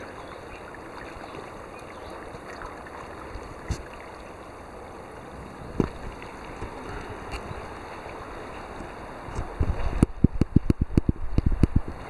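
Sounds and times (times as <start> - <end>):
water washing: 0.0 - 12.0.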